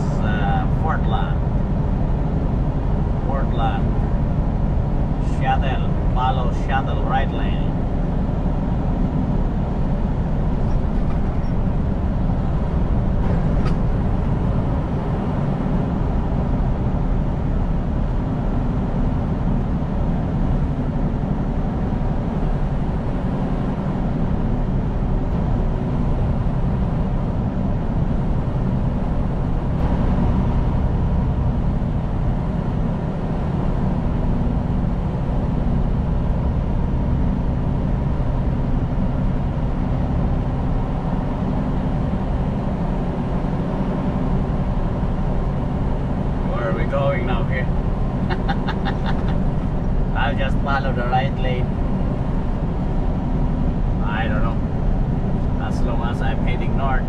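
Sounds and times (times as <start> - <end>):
diesel engine drone: 0.0 - 57.0
road noise: 0.0 - 57.0.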